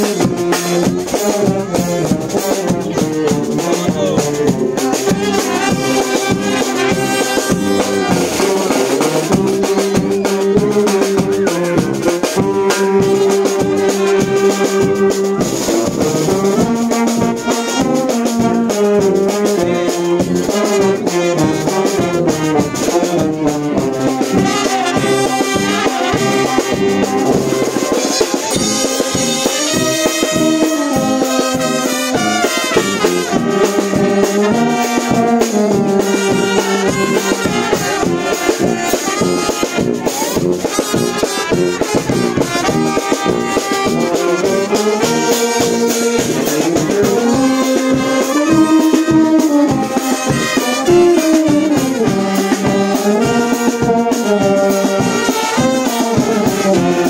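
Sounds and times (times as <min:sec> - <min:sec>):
brass band playing: 0:00.0 - 0:57.0
snare drum and cymbal beat: 0:00.0 - 0:57.0.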